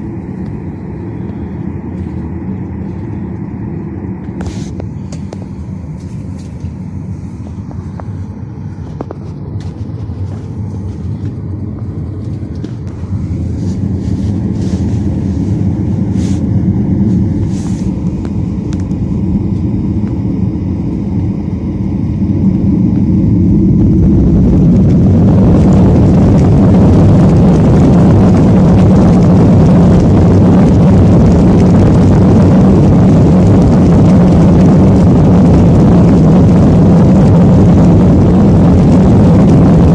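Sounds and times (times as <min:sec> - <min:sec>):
engines spooling up: 0:00.0 - 0:39.9
jet engines humming in cabin: 0:00.0 - 0:39.9.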